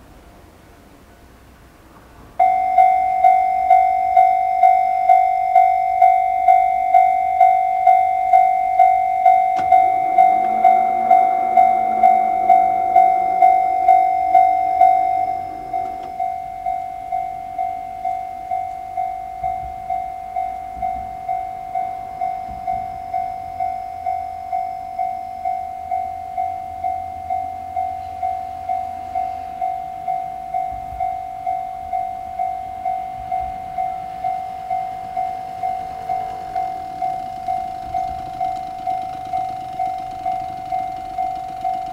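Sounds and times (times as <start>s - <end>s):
level-crossing warning bell: 0.0s - 41.9s.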